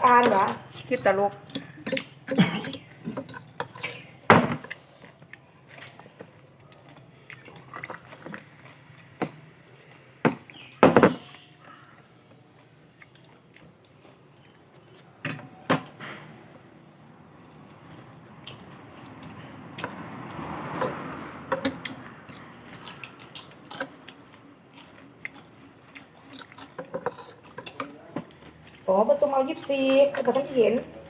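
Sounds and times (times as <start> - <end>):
chewing: 0.2 - 31.0.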